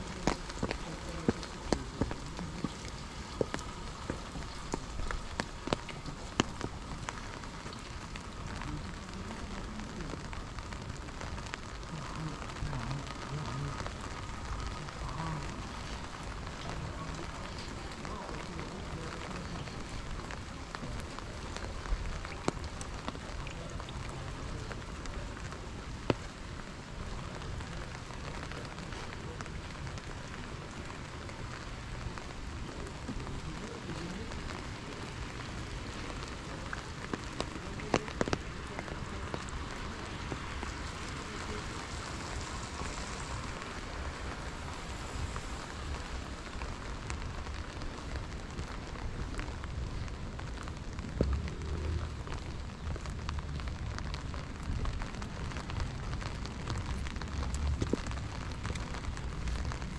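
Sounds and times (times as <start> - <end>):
rain falling on pavement: 0.0 - 59.9.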